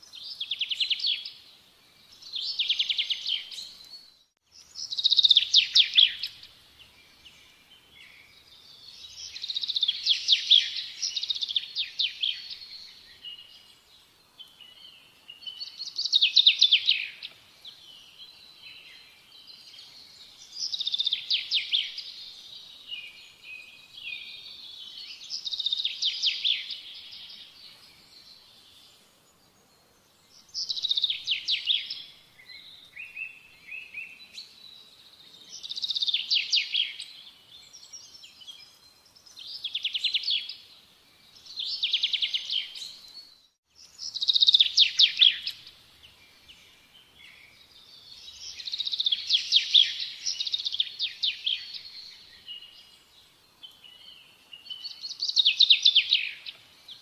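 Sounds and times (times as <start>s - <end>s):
songbird trilling and chirping: 0.0s - 29.0s, 30.1s - 57.0s.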